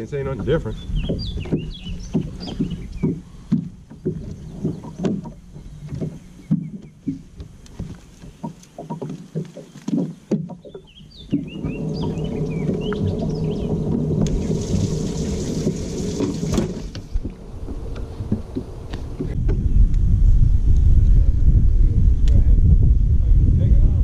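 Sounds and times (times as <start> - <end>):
birds chirping: 0.0 - 19.4
knocks on fiberglass boat: 0.4 - 19.6.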